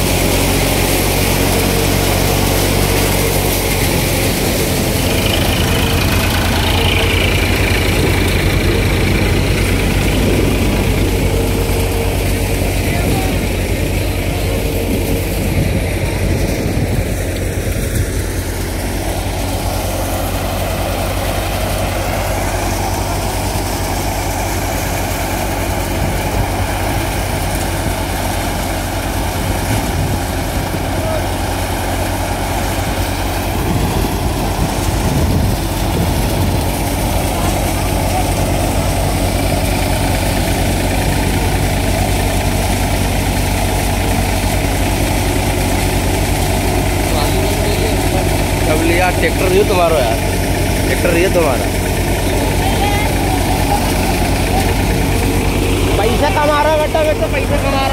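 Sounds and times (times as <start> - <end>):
thresher threshing: 0.0 - 57.9
tractor engine running: 0.0 - 57.9.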